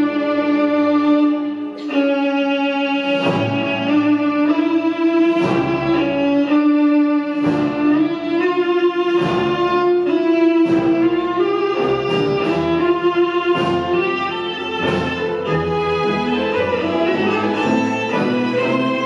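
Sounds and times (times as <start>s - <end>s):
accompaniment striking chords: 0.0s - 19.0s
solo violin slow melody: 0.0s - 19.0s.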